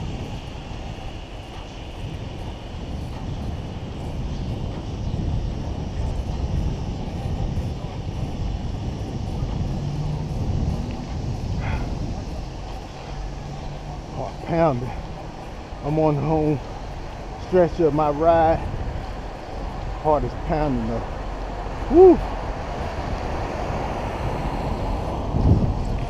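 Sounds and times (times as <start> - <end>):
bicycle tyre road noise: 0.0 - 26.0
wind rush on microphone: 0.0 - 26.0.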